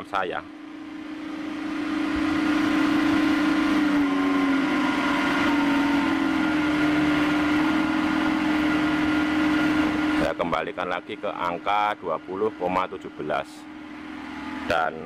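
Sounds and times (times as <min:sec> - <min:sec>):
electric air blower humming: 0:00.0 - 0:15.0.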